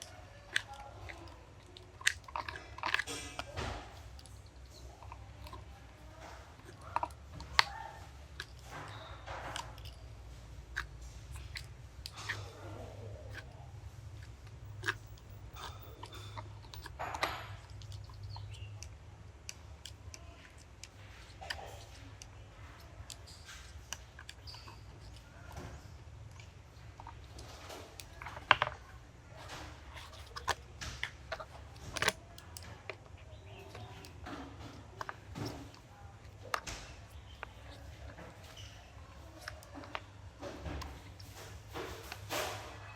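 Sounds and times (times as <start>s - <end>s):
tools clicking and knocking: 0.0s - 42.9s.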